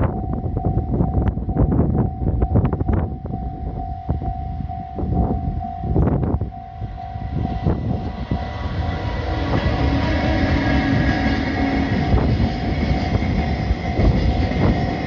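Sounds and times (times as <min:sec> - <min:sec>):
freight train rumble: 0:00.0 - 0:15.0
locomotive tonal hum: 0:00.0 - 0:15.0
steady high tone: 0:00.0 - 0:15.0.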